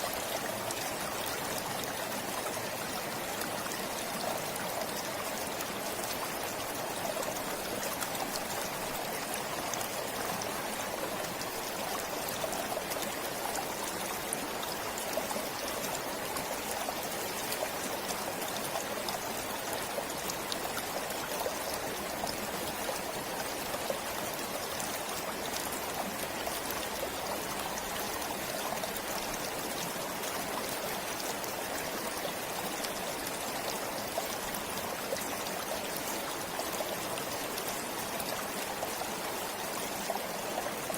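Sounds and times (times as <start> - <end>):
stream flowing with splashes: 0.0 - 40.9.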